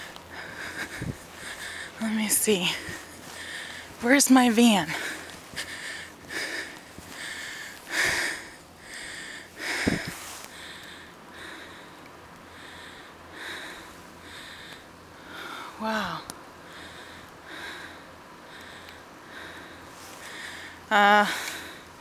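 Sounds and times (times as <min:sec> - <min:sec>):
heavy rhythmic breathing: 0:00.0 - 0:22.0.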